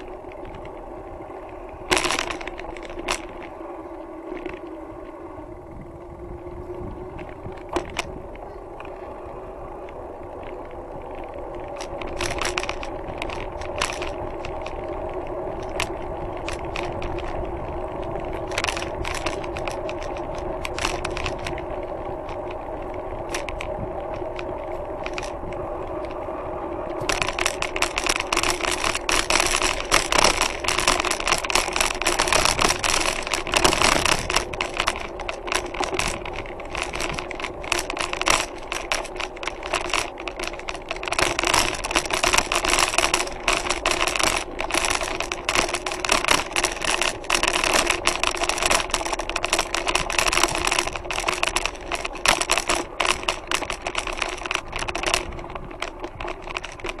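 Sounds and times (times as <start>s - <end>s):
bicycle rattling over cobblestones: 0.0s - 57.0s.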